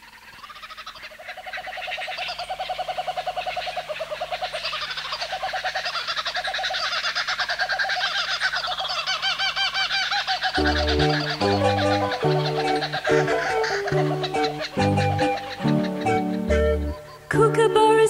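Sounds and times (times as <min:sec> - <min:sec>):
kookaburras calling: 0:00.0 - 0:17.6.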